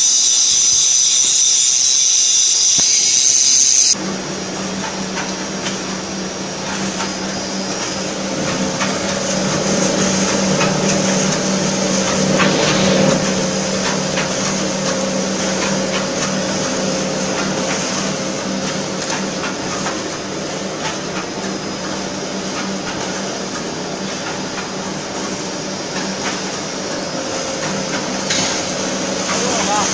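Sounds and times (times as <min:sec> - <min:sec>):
veneer peeling machine running: 0:00.0 - 0:29.9.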